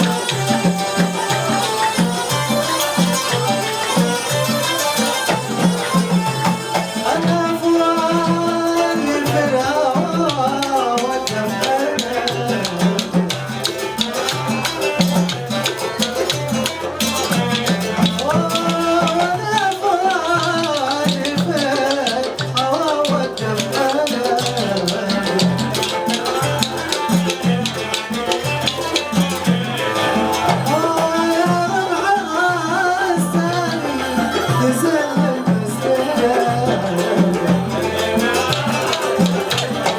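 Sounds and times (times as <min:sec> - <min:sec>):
song with percussion beat: 0:00.0 - 0:39.9.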